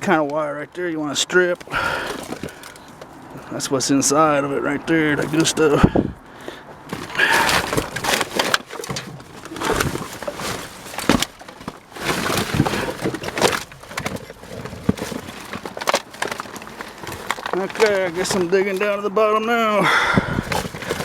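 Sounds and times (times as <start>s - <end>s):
junk rummaged in a dumpster: 0.0s - 21.0s.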